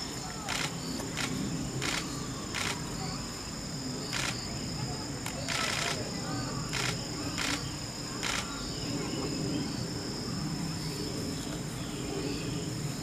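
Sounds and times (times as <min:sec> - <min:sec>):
high insect drone: 0:00.0 - 0:13.0
murmur of distant voices: 0:00.0 - 0:13.0.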